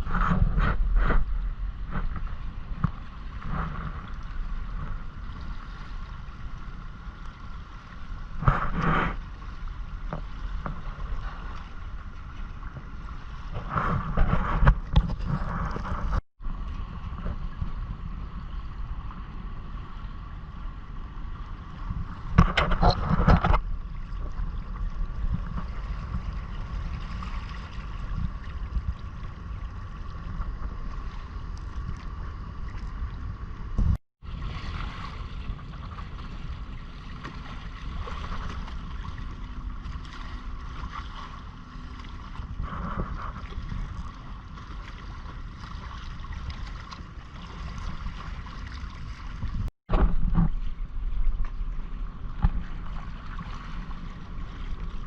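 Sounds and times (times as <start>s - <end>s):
water washing past hull: 0.0s - 55.0s
wind buffeting microphone: 0.0s - 55.0s.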